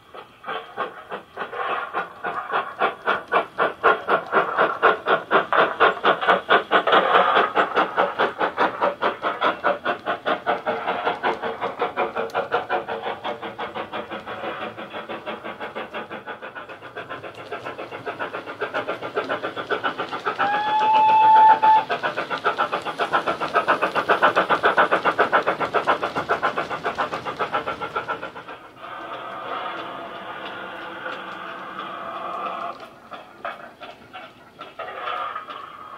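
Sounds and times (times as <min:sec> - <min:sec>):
model steam locomotive chuffs: 0:00.0 - 0:35.9.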